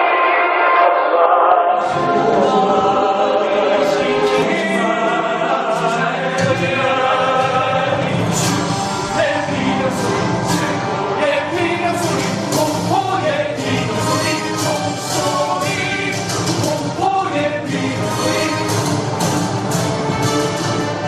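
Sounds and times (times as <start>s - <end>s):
choir singing with accompaniment: 0.0s - 21.0s.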